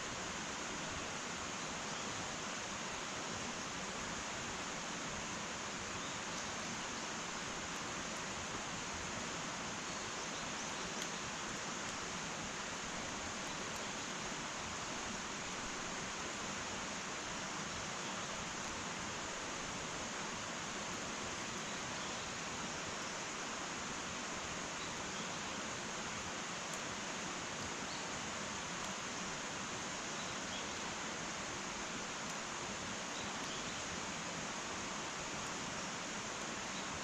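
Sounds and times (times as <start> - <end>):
faint fire crackles: 0.0 - 37.0
wood fire hissing: 0.0 - 37.0.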